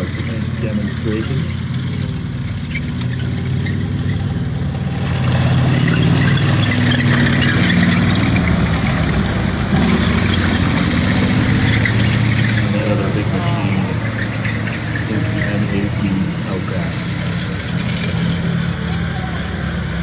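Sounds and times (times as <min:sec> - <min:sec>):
tank engine under load: 0:00.0 - 0:20.0.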